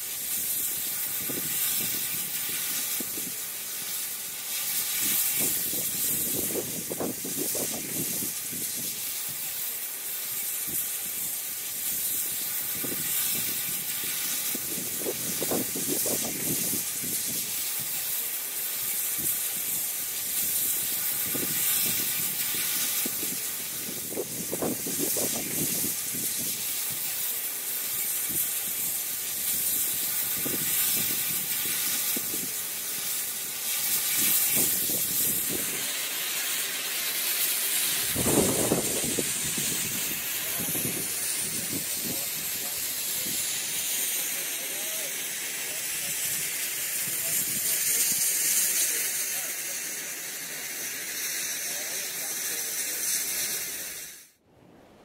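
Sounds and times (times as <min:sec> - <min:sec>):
steam locomotive hissing steam: 0:00.0 - 0:54.4.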